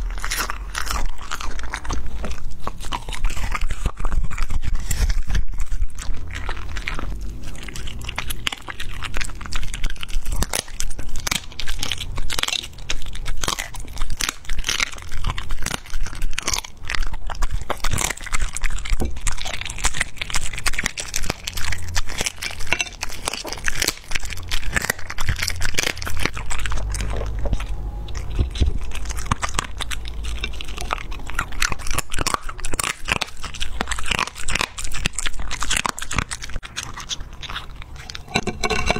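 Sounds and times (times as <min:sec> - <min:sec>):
dog chewing meat and bone: 0:00.0 - 0:38.9.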